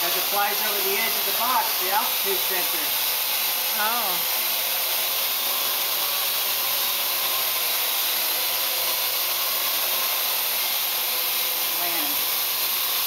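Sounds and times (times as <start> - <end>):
quadcopter propellers whirring: 0.0 - 13.0.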